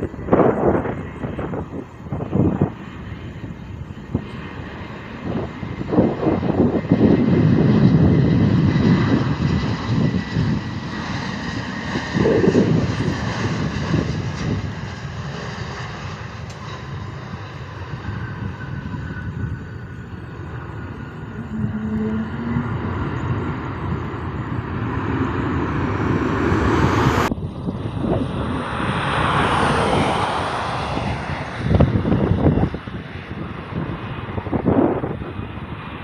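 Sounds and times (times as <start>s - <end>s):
jet engines running: 0.0s - 36.0s.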